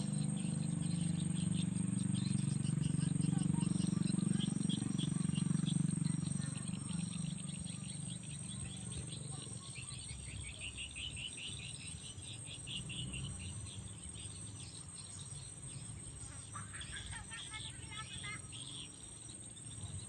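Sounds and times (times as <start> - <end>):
high-pitched insect drone: 0.0 - 20.0
insects chirping in pulses: 0.0 - 20.0.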